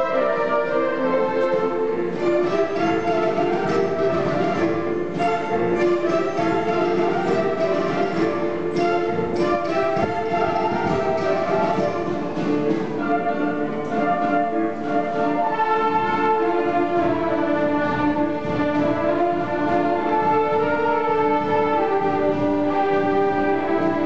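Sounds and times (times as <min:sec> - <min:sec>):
orchestra playing long held notes: 0:00.0 - 0:24.0.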